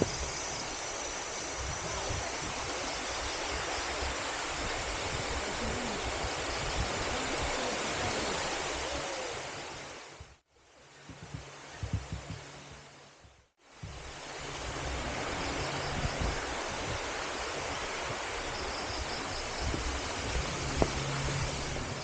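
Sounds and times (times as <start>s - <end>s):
waterfall rushing: 0.0s - 10.2s, 13.8s - 22.0s
wind buffeting microphone: 0.0s - 10.4s, 11.0s - 12.9s, 13.8s - 22.0s.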